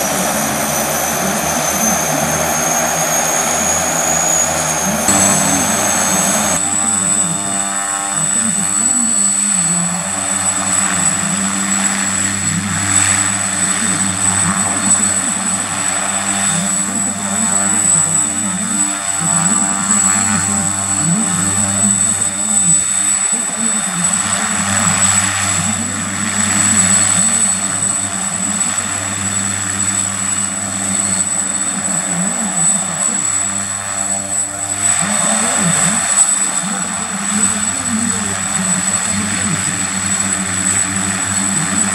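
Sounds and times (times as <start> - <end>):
turbine whine: 0.0 - 20.0, 21.0 - 41.9
propeller drone: 0.0 - 41.9.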